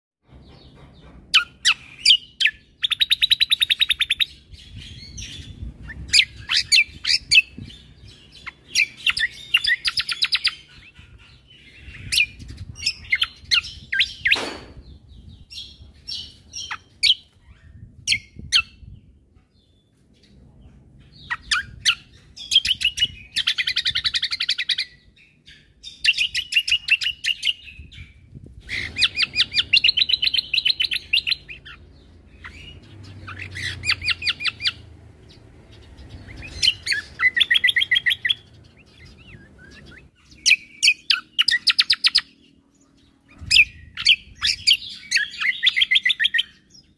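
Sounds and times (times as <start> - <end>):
songbird chirps and trills: 0.2 - 46.9.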